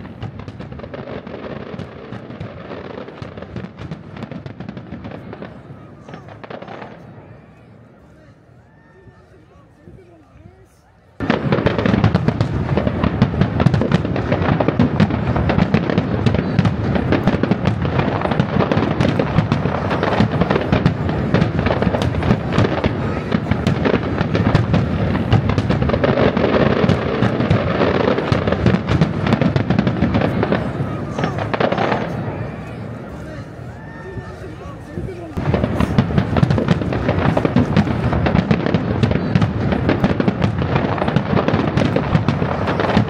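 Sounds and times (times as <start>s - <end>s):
fireworks bursts and crackle: 0.0s - 8.3s, 9.1s - 43.0s.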